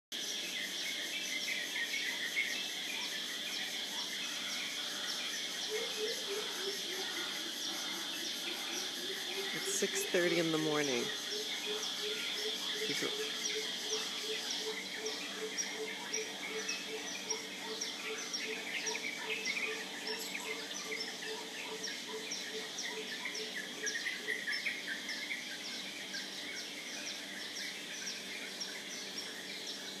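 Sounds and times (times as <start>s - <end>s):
high insect drone: 0.2s - 30.0s
birds chirping: 0.6s - 30.0s.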